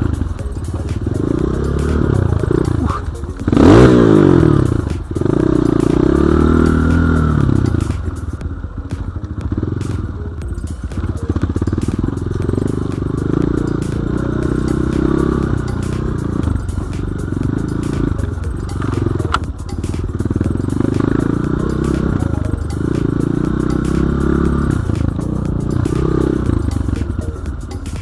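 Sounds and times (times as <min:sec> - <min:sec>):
dirt bike engine revving: 0:00.0 - 0:10.2, 0:10.8 - 0:27.8.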